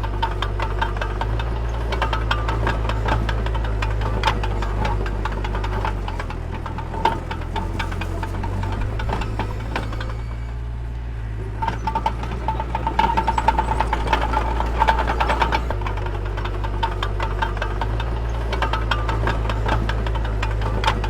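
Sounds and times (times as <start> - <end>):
diesel engine running: 0.0 - 21.0
metallic rattling and clatter: 0.0 - 21.0.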